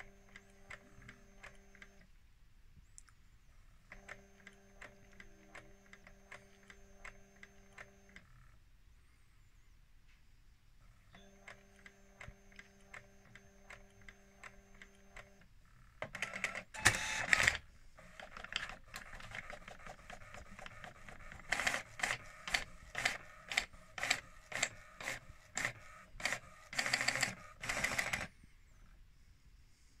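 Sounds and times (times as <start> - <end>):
printer motor hum with ticks: 0.0 - 2.1, 3.9 - 8.6, 10.9 - 29.0.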